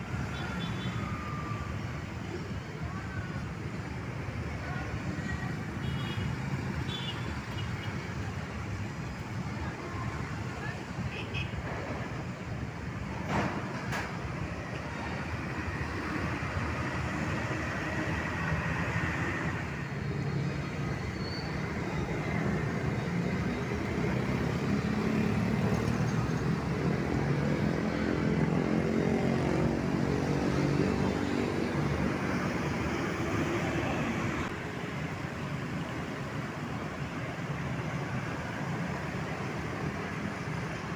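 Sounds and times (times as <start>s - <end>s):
road traffic: 0.0s - 40.9s.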